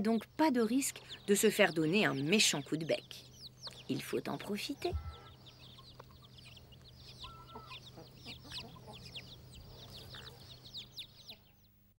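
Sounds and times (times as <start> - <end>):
chicks peeping: 0.0 - 11.8.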